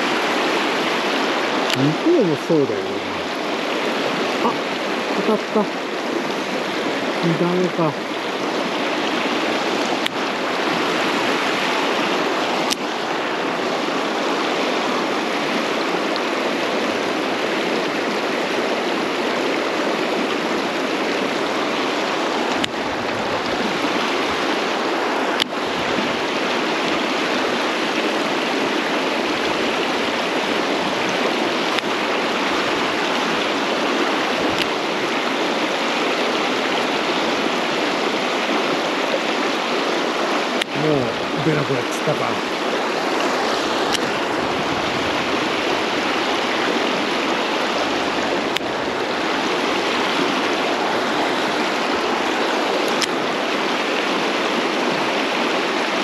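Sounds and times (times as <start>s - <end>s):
mountain stream running: 0.0s - 56.0s.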